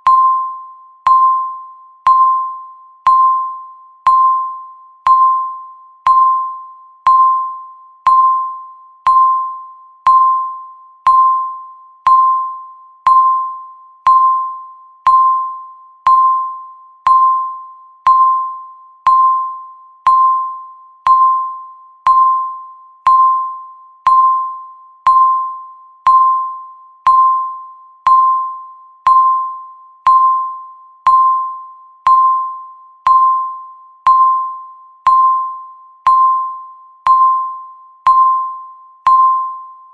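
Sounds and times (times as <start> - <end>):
timer ticking with bell tone: 0.0 - 39.9.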